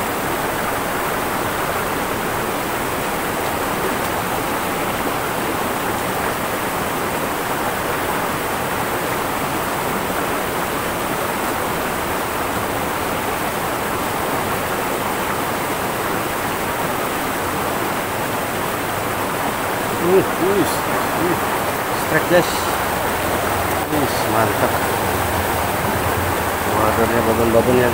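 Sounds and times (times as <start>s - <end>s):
river current rushing: 0.0s - 27.9s.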